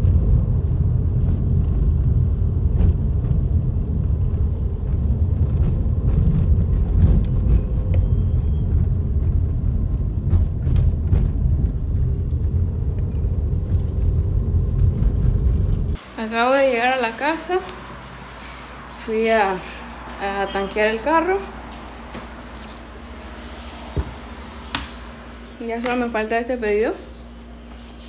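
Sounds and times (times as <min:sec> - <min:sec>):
car engine and road noise: 0:00.0 - 0:16.2, 0:17.2 - 0:25.6.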